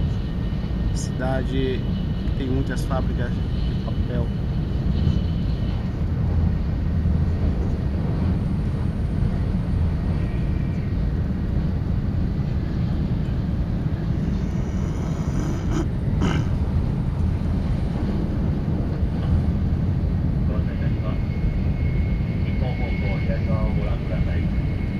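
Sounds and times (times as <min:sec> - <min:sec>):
train rumble inside passenger car: 0:00.0 - 0:24.9.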